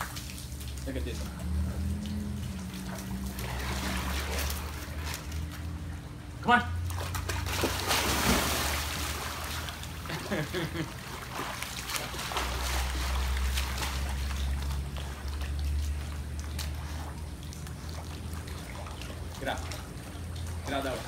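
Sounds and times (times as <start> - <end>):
dog splashing into pool: 0.0 - 6.0, 6.7 - 21.0
low steady hum: 0.0 - 21.0
water sloshing and splashing: 0.0 - 21.0.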